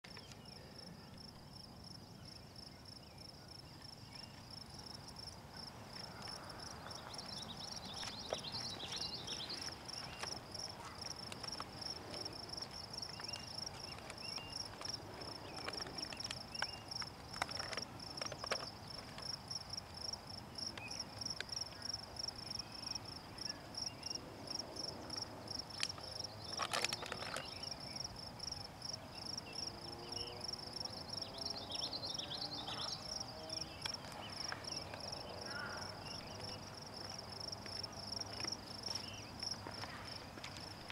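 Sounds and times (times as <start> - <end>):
insects trilling: 0.1 - 40.9.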